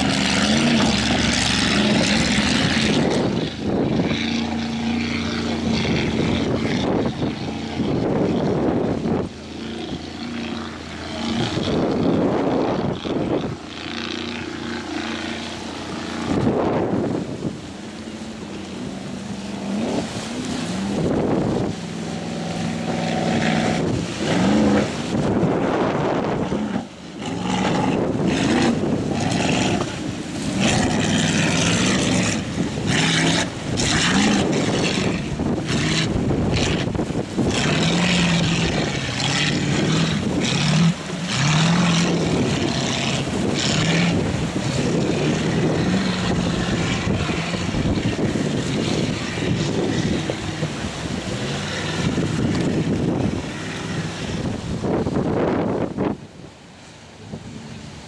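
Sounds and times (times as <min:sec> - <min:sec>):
racing powerboat engines: 0:00.0 - 0:58.0
wind buffeting microphone: 0:00.0 - 0:58.0.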